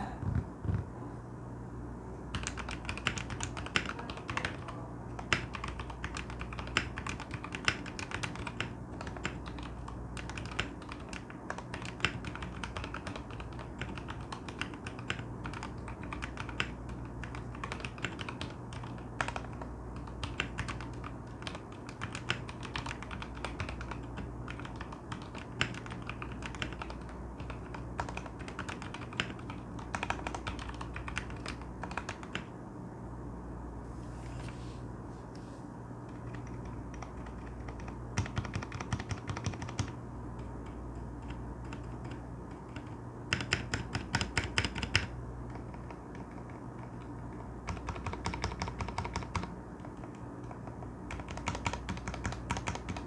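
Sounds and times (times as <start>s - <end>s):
mechanical keyboard typing: 2.3s - 32.5s, 36.1s - 53.0s.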